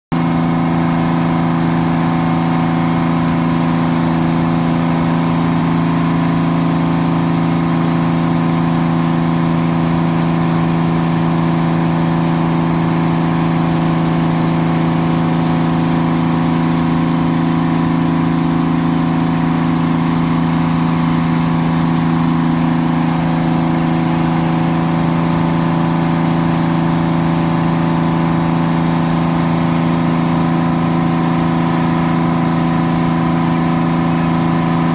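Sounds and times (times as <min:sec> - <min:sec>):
crane engine idling: 0:00.2 - 0:34.9.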